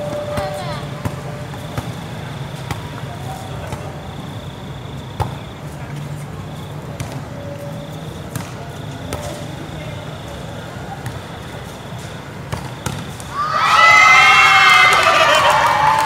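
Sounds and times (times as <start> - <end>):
court background noise: 0.0 - 16.0.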